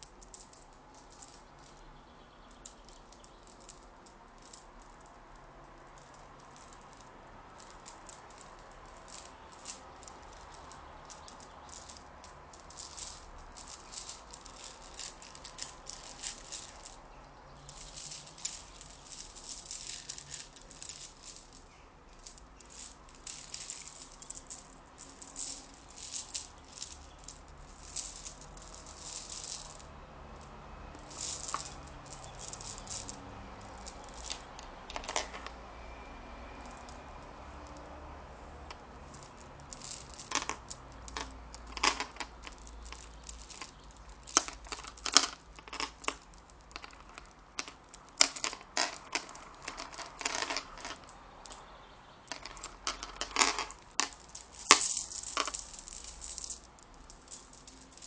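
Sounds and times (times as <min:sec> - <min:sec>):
small object rattling and rustling: 0:00.0 - 0:58.0.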